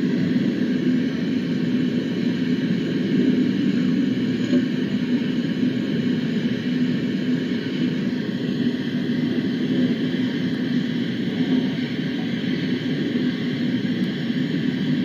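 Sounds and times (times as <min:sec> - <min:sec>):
faint steady hum: 0:00.0 - 0:15.0
low background rumble: 0:00.0 - 0:15.0.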